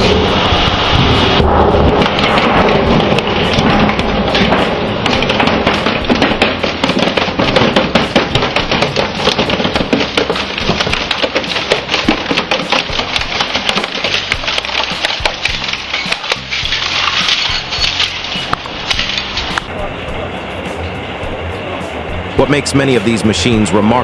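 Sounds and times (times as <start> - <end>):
shredding machine crushing material: 0.0 - 19.7.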